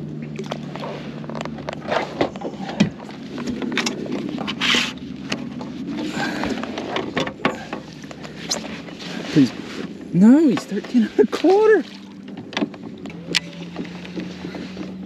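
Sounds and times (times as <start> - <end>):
knocks and rattles on plastic kayak: 0.3 - 15.0.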